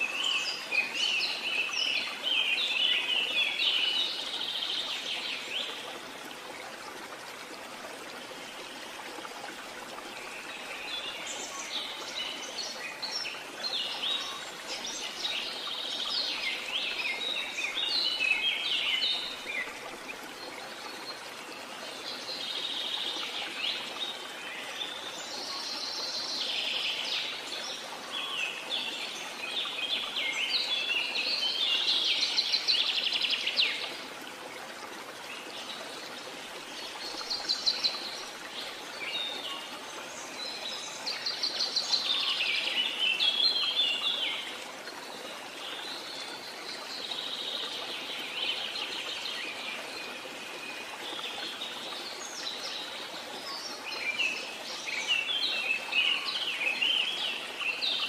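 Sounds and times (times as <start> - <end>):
running water hiss: 0.0 - 58.0.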